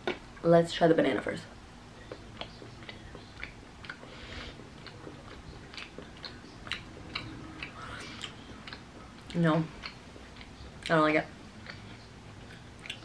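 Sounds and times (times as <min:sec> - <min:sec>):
person chewing candy: 0:01.9 - 0:13.0.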